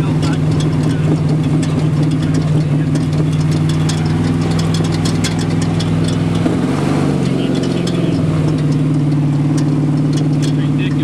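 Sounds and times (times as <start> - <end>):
buggy engine running: 0.0 - 11.0
sharp ticks: 0.2 - 6.5, 7.2 - 11.0.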